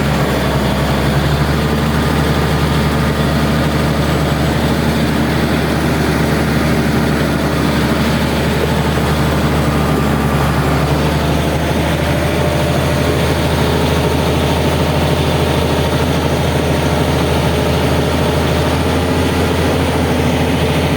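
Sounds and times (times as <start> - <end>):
bulldozer diesel engine droning: 0.0 - 20.9.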